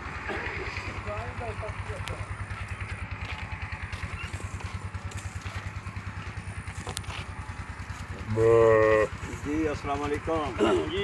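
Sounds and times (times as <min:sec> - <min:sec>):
engine running with thudding beat: 0:00.0 - 0:11.0.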